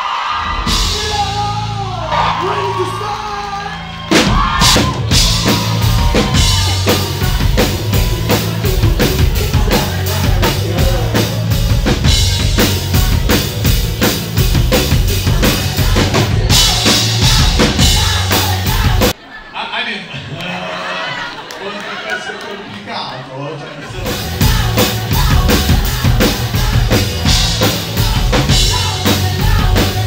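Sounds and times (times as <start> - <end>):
bass line: 0.4 - 19.2, 23.9 - 30.0
drum kit beat: 0.4 - 19.2, 23.9 - 30.0.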